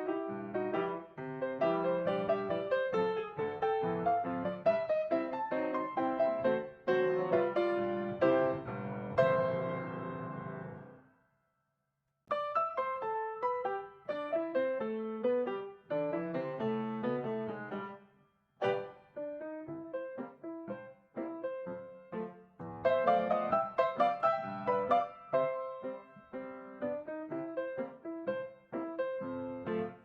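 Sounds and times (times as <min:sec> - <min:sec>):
piano music: 0:00.0 - 0:11.0, 0:12.3 - 0:18.0, 0:18.6 - 0:30.0.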